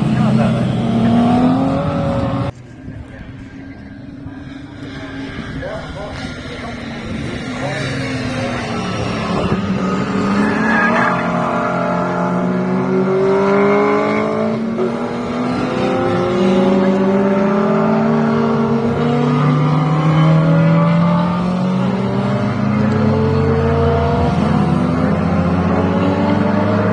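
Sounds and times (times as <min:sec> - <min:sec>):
racing car engines accelerating: 0:00.0 - 0:26.9.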